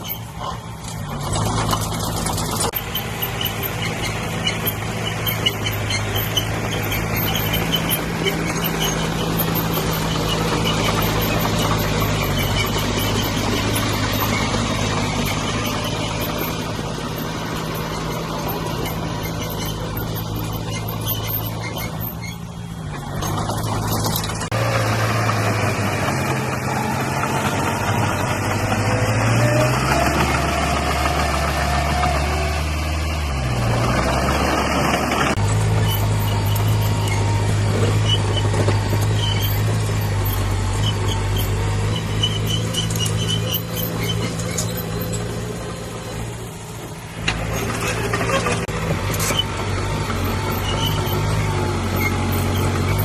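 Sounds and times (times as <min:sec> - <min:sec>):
heavy diesel engine under load: 0:00.0 - 0:53.0
high squeaks: 0:00.0 - 0:53.0.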